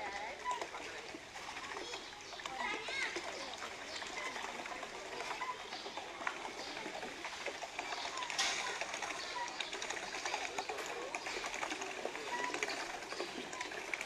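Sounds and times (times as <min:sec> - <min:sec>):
faint distant voices: 0:00.0 - 0:14.0
paddle wheels splashing water: 0:00.0 - 0:14.0.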